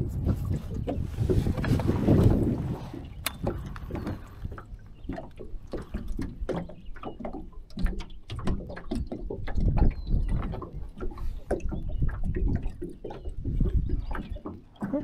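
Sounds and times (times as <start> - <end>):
waves slapping boat hull: 0.0 - 15.0.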